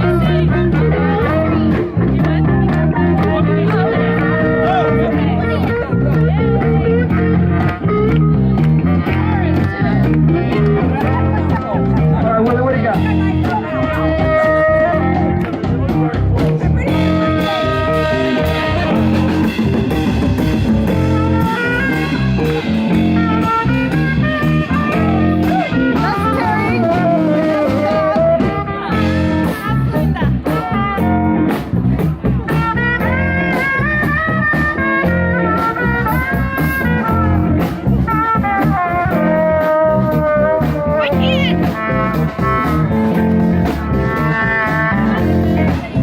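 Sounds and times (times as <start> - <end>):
blues band playing live: 0.0 - 46.0
lead guitar with bent notes: 0.0 - 46.0.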